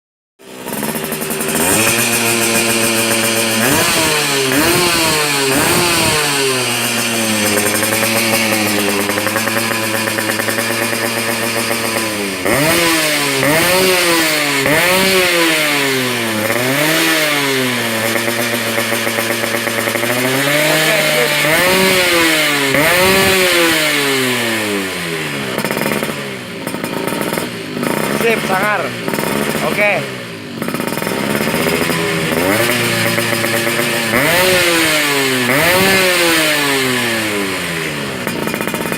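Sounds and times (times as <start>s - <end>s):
two-stroke engine idling and revving: 0.4s - 38.9s.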